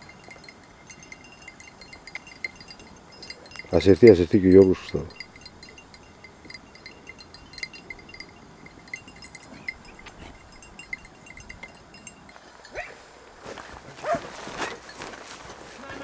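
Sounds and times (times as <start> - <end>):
small bells jingling: 0.0 - 13.7, 14.4 - 16.0.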